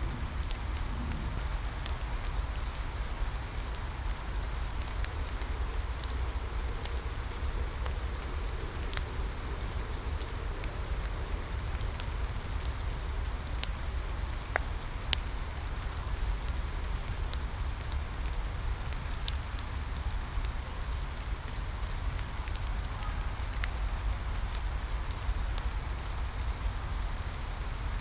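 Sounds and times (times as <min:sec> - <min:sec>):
steady rain: 0:00.0 - 0:28.0
wood fire crackling and popping: 0:00.0 - 0:28.0.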